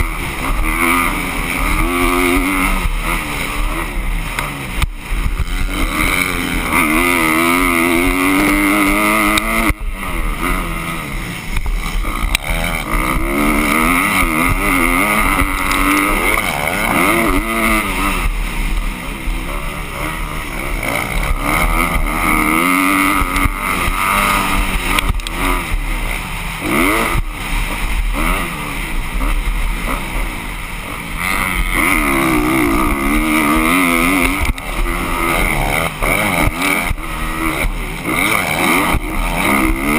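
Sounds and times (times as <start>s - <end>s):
dirt bike engines revving: 0.0s - 39.9s
steady rushing noise: 0.0s - 39.9s.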